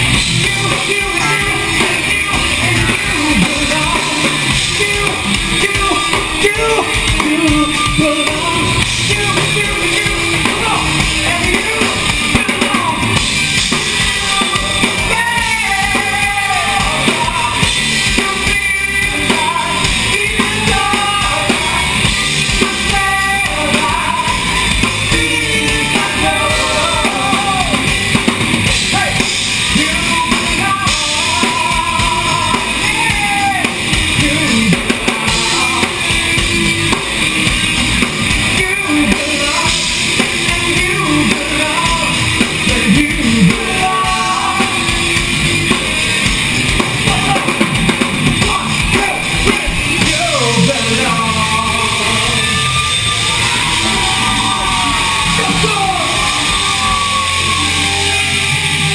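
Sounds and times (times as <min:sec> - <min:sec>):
drum kit: 0:00.0 - 0:58.9
electric guitar: 0:00.0 - 0:58.9.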